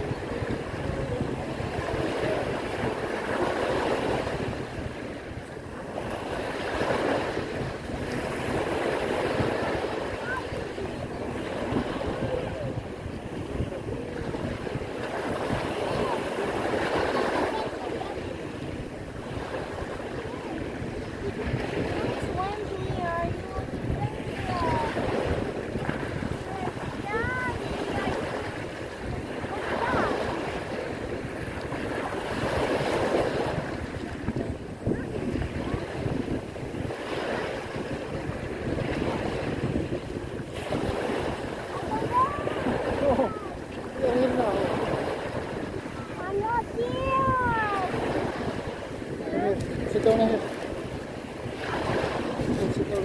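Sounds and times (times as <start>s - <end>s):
small waves on pebbly shore: 0.0s - 53.0s
wind buffeting microphone: 0.0s - 53.0s.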